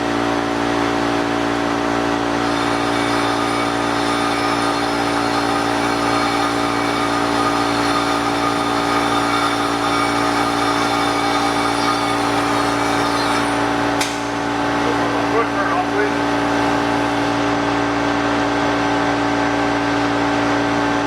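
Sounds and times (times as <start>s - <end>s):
bandsaw cutting metal: 0.0s - 17.4s.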